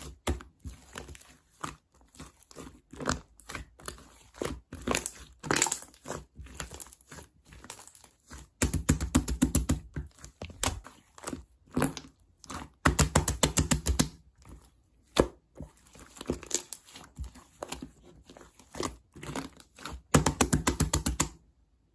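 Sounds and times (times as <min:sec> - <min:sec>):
slime squelching: 0:00.0 - 0:21.4.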